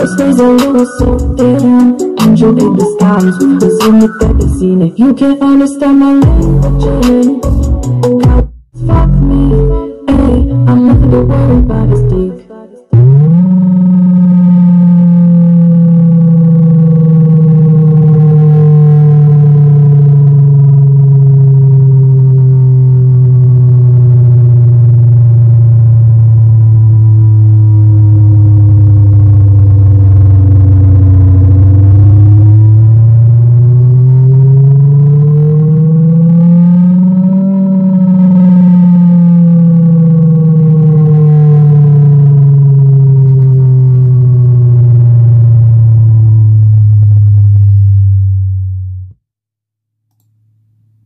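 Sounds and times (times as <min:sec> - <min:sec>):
low bass tone gliding downward: 0:00.0 - 0:04.8, 0:06.2 - 0:12.3, 0:12.9 - 0:49.2.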